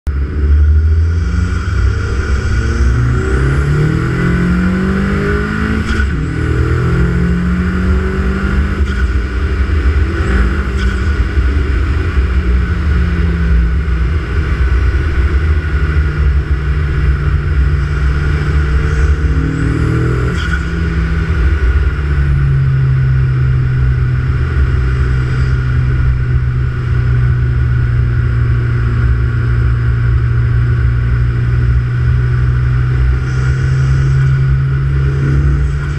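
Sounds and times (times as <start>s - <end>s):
car engine revving and idling: 0.0s - 35.9s.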